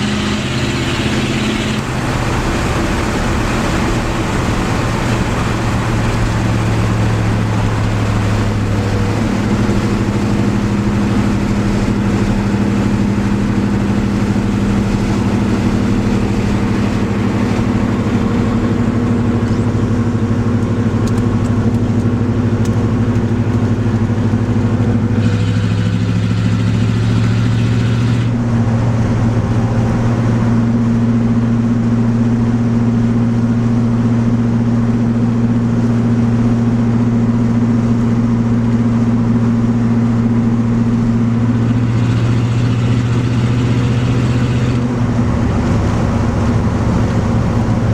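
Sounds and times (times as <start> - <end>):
car engine exhaust drone: 0.0 - 47.9.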